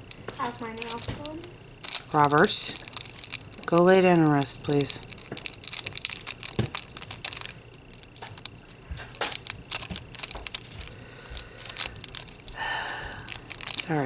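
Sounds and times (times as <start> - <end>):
crinkling and small clicks: 0.0 - 14.0.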